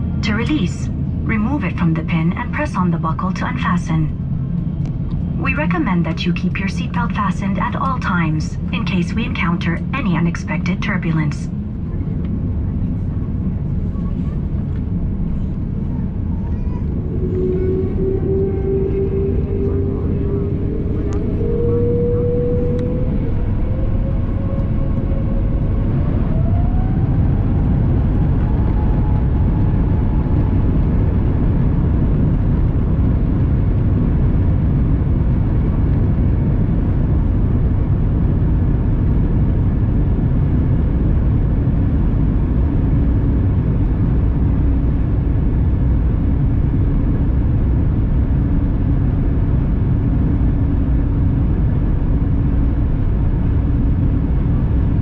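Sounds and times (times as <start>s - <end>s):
jet engine roar: 0.0s - 55.0s
jet engine whine: 0.0s - 55.0s
steady low tone: 0.0s - 55.0s.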